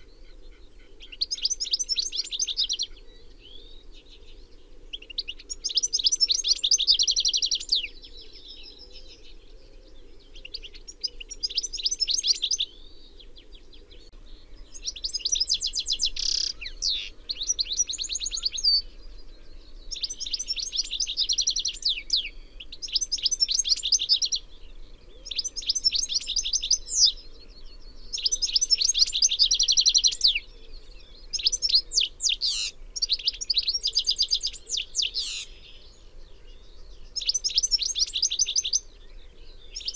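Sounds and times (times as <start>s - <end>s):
goldfinch singing: 0.0s - 9.5s, 10.3s - 39.9s.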